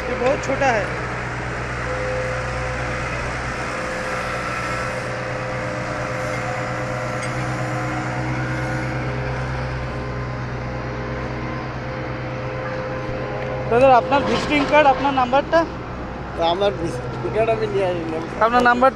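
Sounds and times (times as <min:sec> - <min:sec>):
diesel machinery engine hum: 0:00.0 - 0:18.9
steady whining tones: 0:00.0 - 0:18.9.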